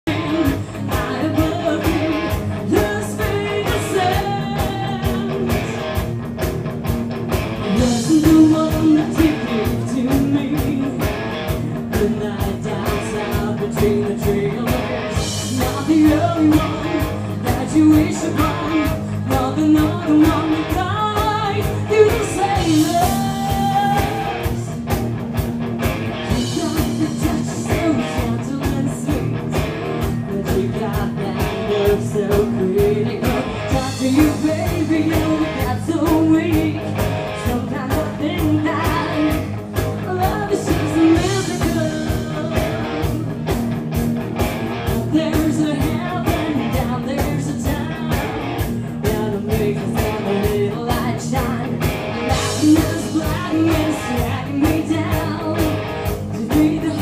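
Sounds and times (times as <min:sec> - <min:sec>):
woman singing lead: 0:00.0 - 0:06.4, 0:07.6 - 0:25.2, 0:26.1 - 0:43.8, 0:44.7 - 0:57.0
drums: 0:00.0 - 0:57.0
electric guitars: 0:00.0 - 0:57.0.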